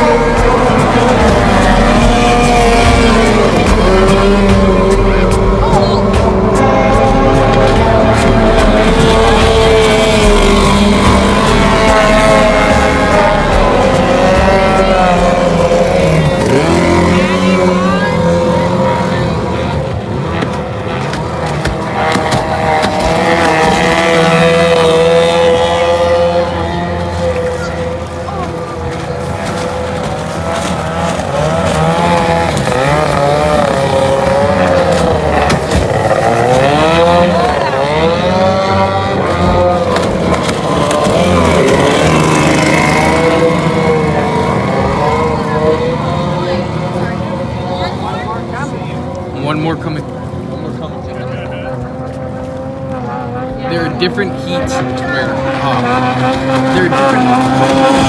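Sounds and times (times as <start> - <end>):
racing boat engines: 0.0 - 58.0.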